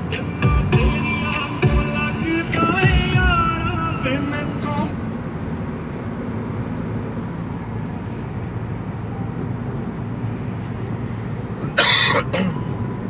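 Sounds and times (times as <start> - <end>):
car cabin engine and road noise: 0.0 - 13.0.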